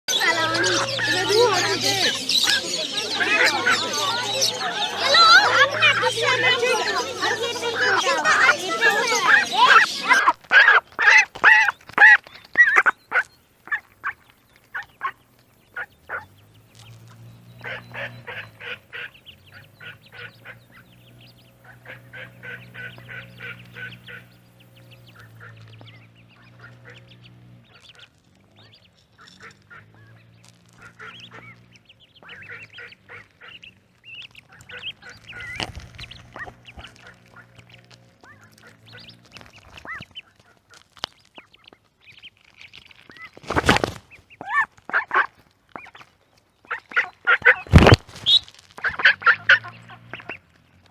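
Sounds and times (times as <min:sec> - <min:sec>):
ducklings peeping: 0:00.1 - 0:50.9.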